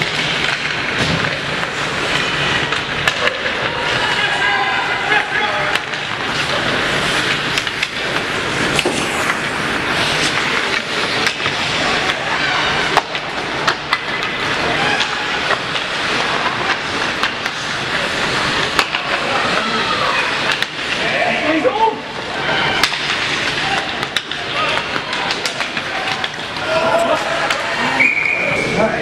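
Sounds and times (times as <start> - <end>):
hockey sticks and puck clacking: 0.0 - 29.0
skates scraping ice: 0.0 - 29.0.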